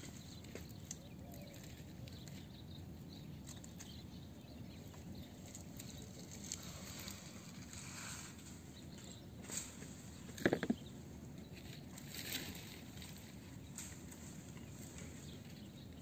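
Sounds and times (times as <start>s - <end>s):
faint ticks and rustles: 0.0s - 16.0s.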